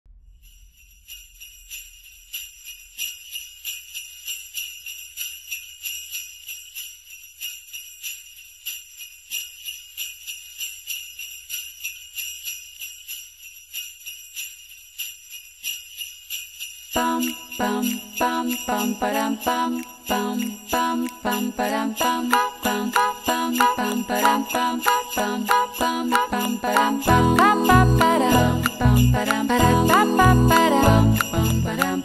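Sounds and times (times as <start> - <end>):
sleigh bells jingling: 0.4 - 32.0.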